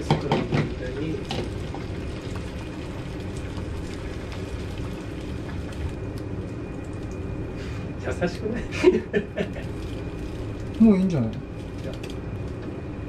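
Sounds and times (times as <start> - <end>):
egg sizzling in a frying pan: 0.0 - 7.9, 9.3 - 12.7.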